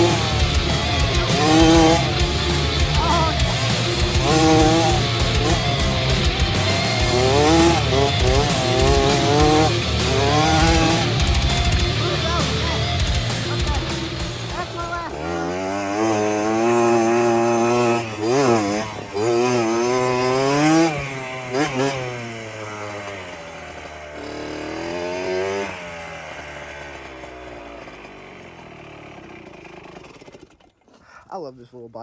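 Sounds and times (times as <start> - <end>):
dirt bike engine revving: 0.0 - 30.7.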